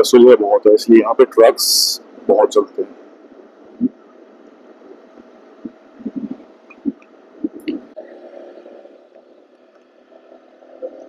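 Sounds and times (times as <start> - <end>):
steady low hum: 0.0 - 11.0
wind buffeting microphone: 2.0 - 11.0.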